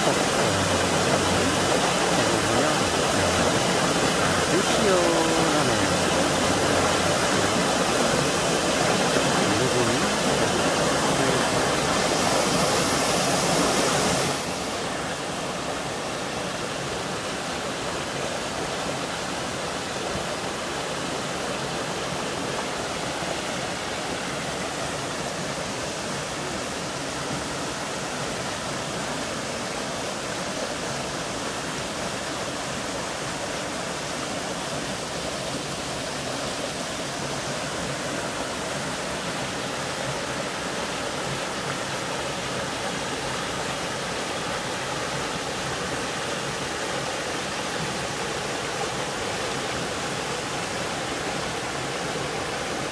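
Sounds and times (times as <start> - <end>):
stream rushing over boulders: 0.0 - 52.9.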